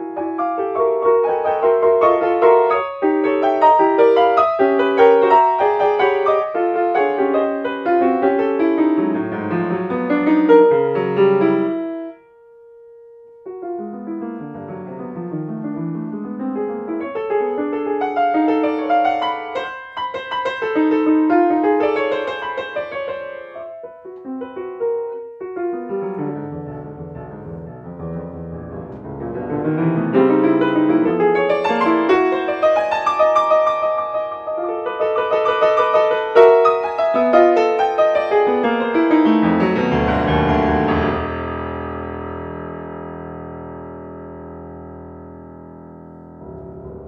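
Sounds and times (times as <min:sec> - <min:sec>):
piano piece: 0:00.0 - 0:47.0.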